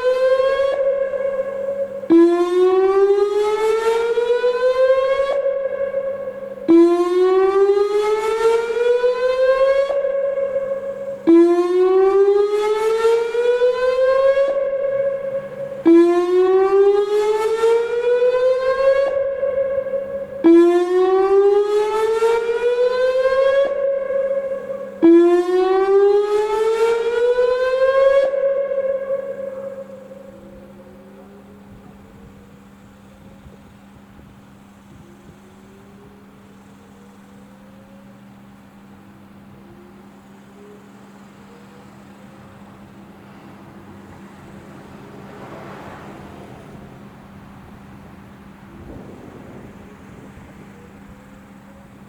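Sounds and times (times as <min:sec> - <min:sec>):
outdoor warning siren wailing: 0:00.0 - 0:52.0.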